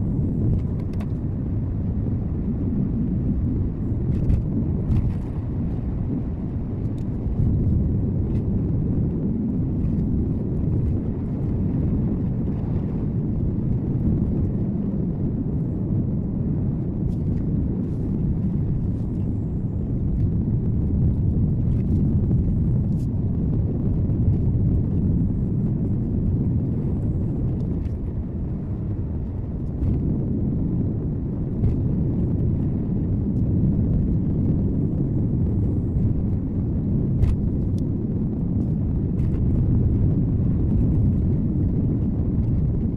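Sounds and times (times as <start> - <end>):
car interior road rumble: 0.0 - 42.9.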